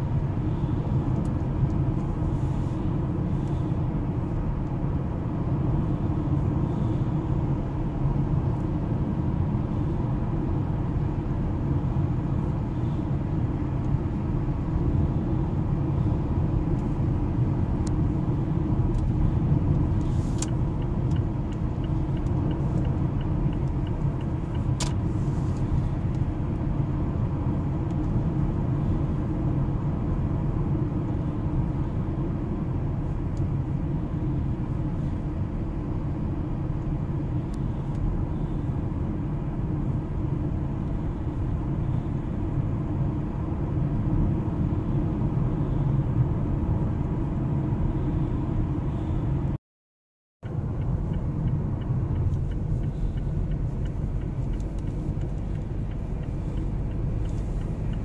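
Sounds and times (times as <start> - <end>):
road and engine noise in car cabin: 0.0 - 49.6, 50.4 - 58.0.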